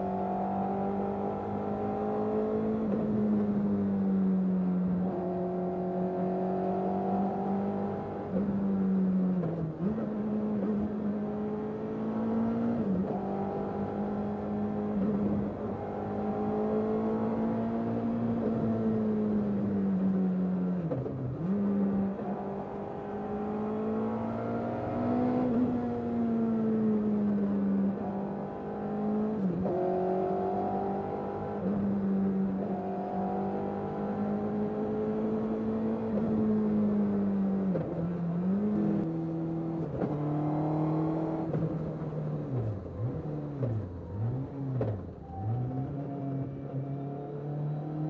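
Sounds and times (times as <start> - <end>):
car engine revving: 5.0 - 48.0.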